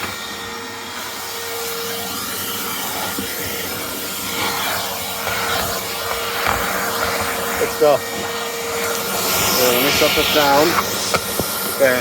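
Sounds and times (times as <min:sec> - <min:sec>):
wet dry vacuum running: 0:00.0 - 0:12.0.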